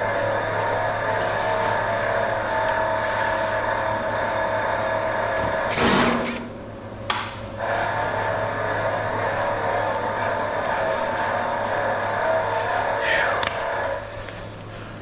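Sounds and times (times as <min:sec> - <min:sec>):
background hum with held tones: 0:00.0 - 0:15.0.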